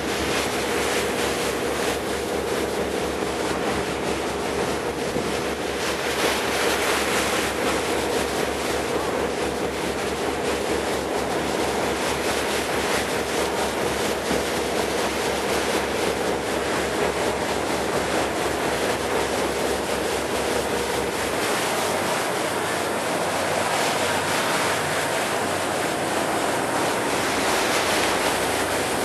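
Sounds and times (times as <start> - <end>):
boat engine throbbing: 0.0 - 29.0
water rushing past hull: 0.0 - 29.0.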